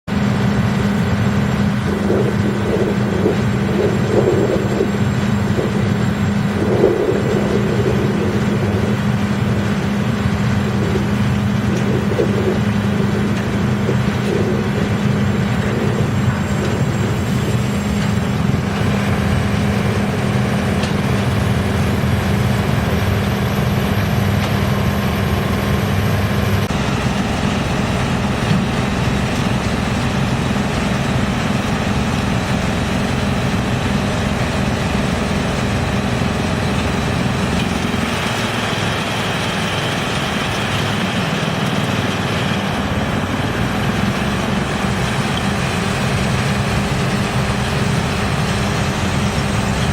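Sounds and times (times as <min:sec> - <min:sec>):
wood chipper running: 0:00.1 - 0:49.9.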